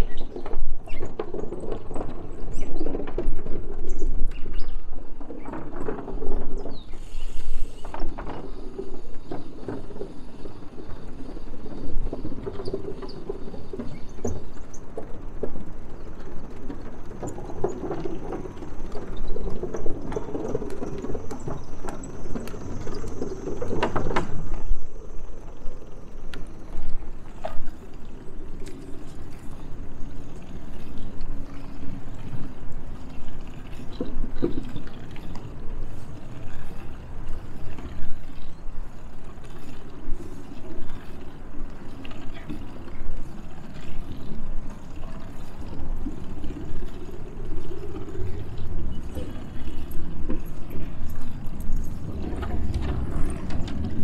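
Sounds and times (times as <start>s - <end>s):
bicycle clicks and rattles: 0.0s - 54.0s
bicycle tyres rumbling on boards: 0.0s - 54.0s.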